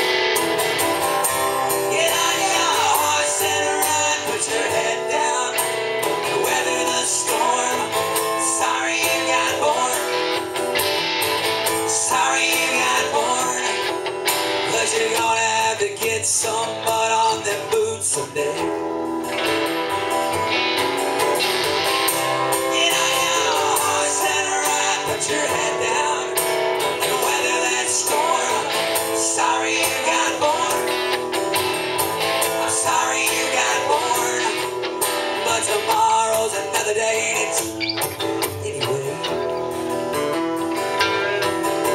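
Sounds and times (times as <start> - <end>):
acoustic guitar strumming chords: 0.0 - 41.9
electric guitar melody with bends: 0.0 - 41.9.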